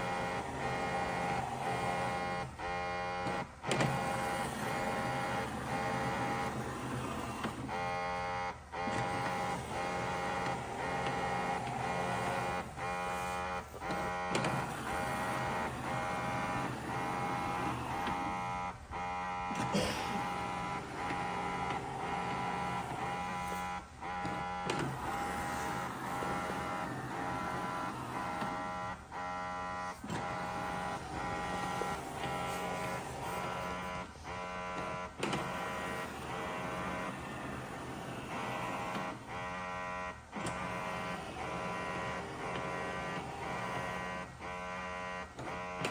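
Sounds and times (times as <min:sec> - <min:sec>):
motorised whir: 0:00.0 - 0:45.9.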